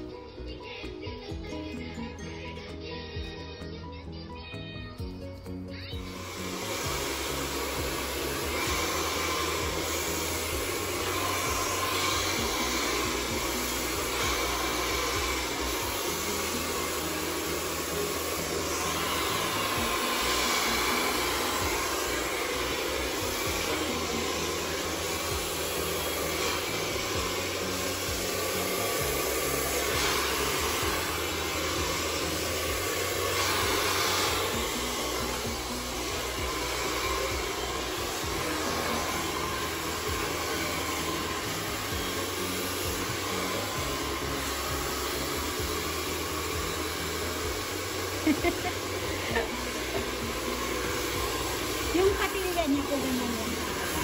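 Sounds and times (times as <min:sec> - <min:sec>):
hair dryer blowing: 0:06.0 - 0:54.0.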